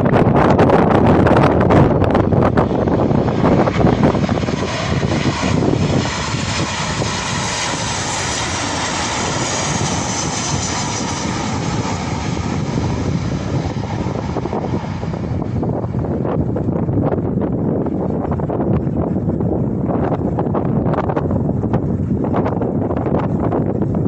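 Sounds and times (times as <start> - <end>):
airliner engine rush overhead: 0.0 - 24.0
wind buffeting microphone: 0.0 - 24.0.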